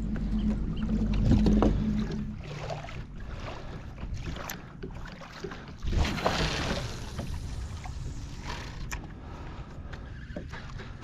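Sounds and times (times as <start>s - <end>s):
water whoosh: 0.0s - 9.0s
water lapping against kayak hull: 0.0s - 11.0s.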